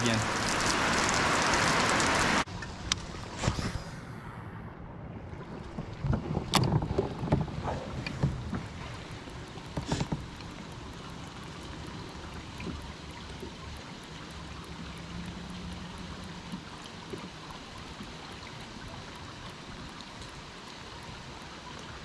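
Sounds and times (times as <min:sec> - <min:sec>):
heavy rain on water: 0:00.0 - 0:03.6, 0:05.4 - 0:22.0.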